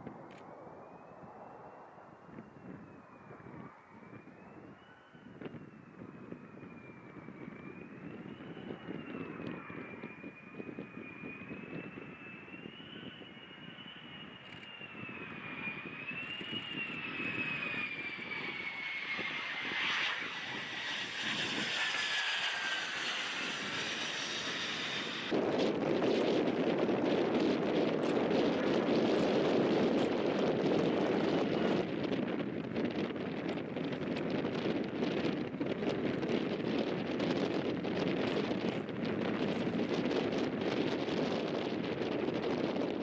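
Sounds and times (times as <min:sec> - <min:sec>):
jet engine whine and rush: 0:00.0 - 0:43.0.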